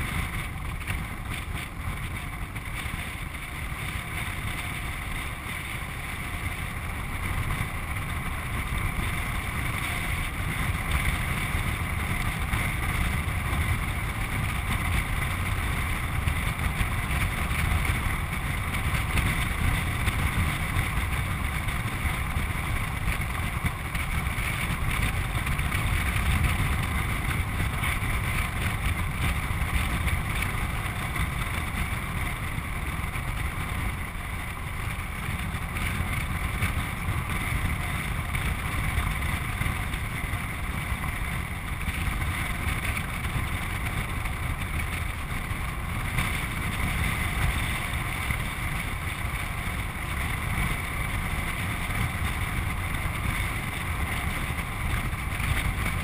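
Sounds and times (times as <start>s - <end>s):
craft rolling rumble: 0.0s - 56.0s.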